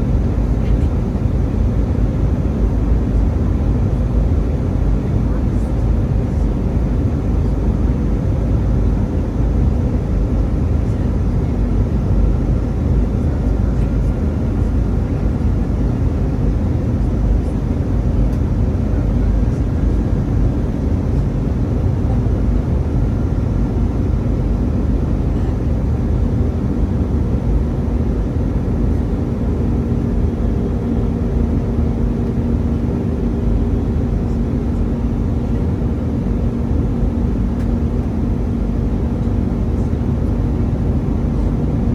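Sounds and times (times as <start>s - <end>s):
airliner engine and airflow rumble: 0.0s - 41.9s.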